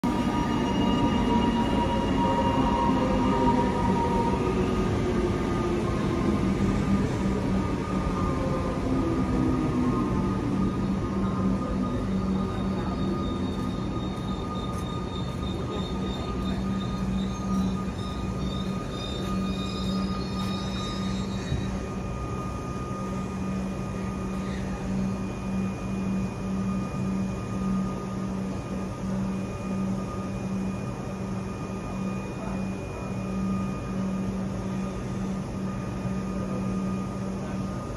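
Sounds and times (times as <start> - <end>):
electric train rumbling: 0.0 - 37.9
train whining tones: 0.0 - 37.9
faint high squeal: 0.1 - 5.6, 7.8 - 37.9.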